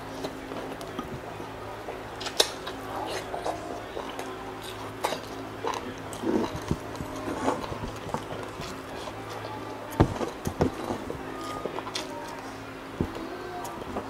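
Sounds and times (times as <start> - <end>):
steady low hum: 0.0 - 14.0
chewing crispy food: 0.1 - 12.6.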